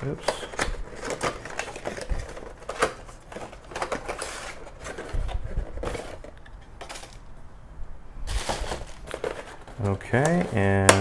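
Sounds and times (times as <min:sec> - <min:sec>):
cardboard and plastic rustling: 0:00.0 - 0:07.3, 0:08.2 - 0:11.0.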